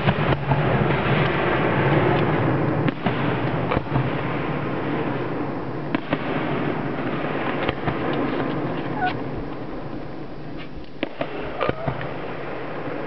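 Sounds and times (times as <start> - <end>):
continuous fireworks noise: 0.0 - 13.0
fireworks bangs and pops: 0.0 - 13.0.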